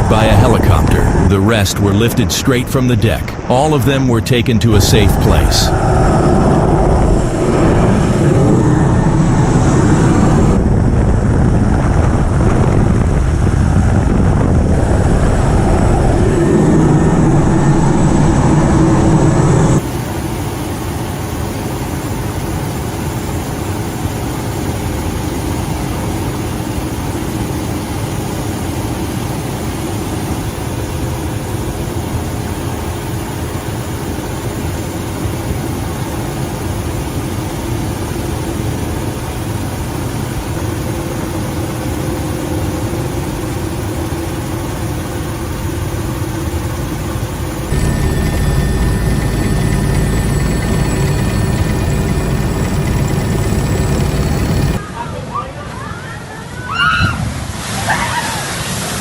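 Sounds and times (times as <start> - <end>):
rushing noise with faint hum: 0.0 - 20.2, 24.4 - 55.0
helicopter rotor noise: 0.0 - 55.0
wind: 0.0 - 59.0.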